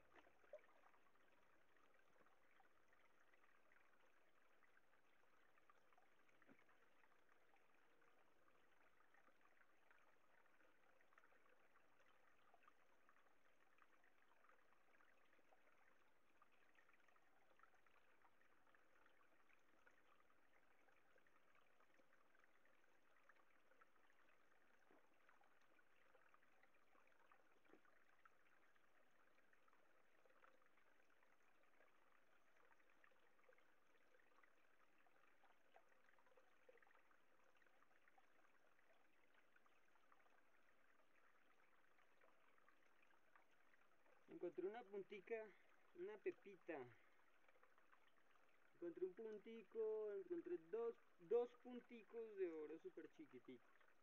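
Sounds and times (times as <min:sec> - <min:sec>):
faint stream trickling: 0:00.0 - 0:54.0
small drips: 0:00.0 - 0:54.0.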